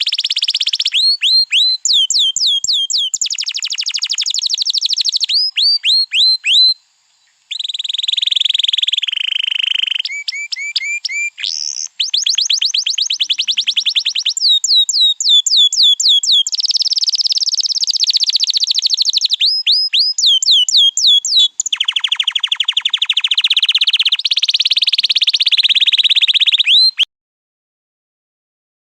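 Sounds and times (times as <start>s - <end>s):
canary singing trills: 0.0s - 27.1s.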